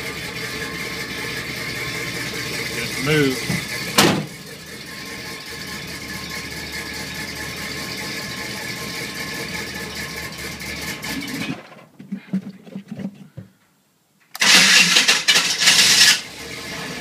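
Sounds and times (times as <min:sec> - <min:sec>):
car engine idling roughly: 0:00.0 - 0:11.6, 0:14.4 - 0:17.0.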